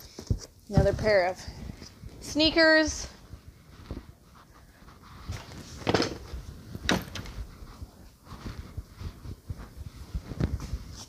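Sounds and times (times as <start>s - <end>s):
light bumps and rustles: 0.0s - 11.0s.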